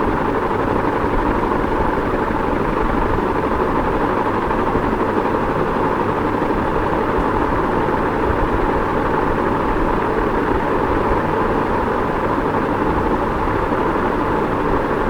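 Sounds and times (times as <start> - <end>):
ceiling fan whooshing hum: 0.0 - 15.0.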